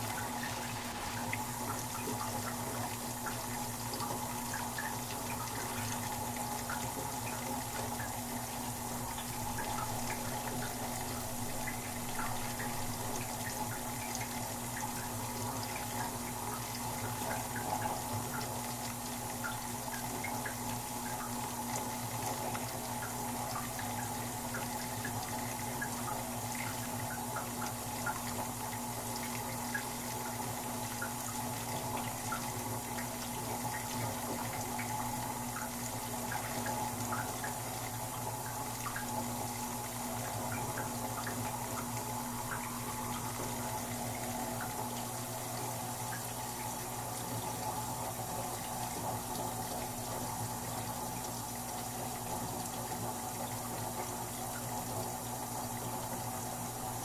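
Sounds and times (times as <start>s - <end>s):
low machine hum: 0.0s - 57.0s
water rushing into washing machine: 0.0s - 57.0s
water splashes and drips: 0.0s - 57.0s.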